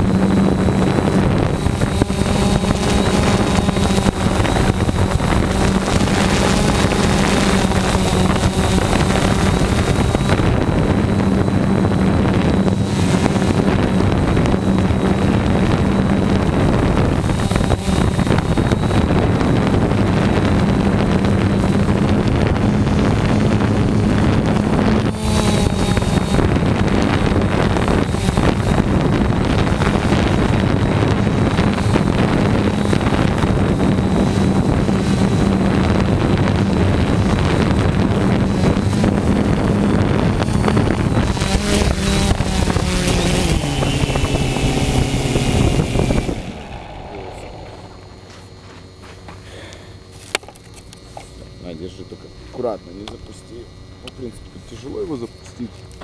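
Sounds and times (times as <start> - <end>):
wind on microphone: 0.0 - 49.0
quadcopter motors spinning: 0.0 - 56.0.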